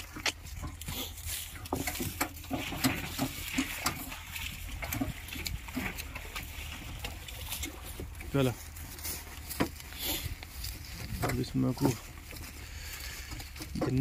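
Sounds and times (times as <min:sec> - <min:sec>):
cart frame clicks and rattles: 0:00.0 - 0:14.0.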